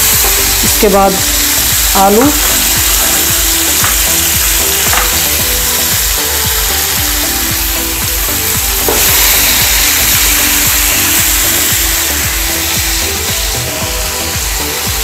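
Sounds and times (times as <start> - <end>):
background music with beat: 0.0 - 15.0
food sizzling in hot oil: 0.0 - 15.0.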